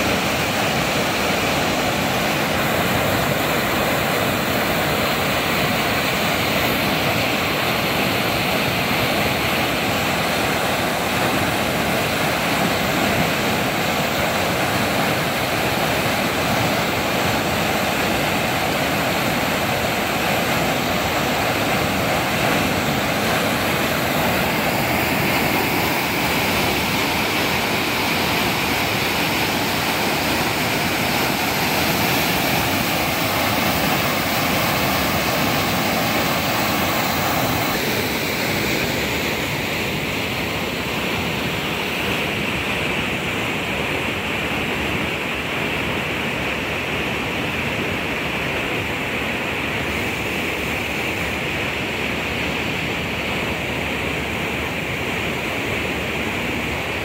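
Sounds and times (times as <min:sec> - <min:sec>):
water rushing over a weir: 0:00.0 - 0:57.0.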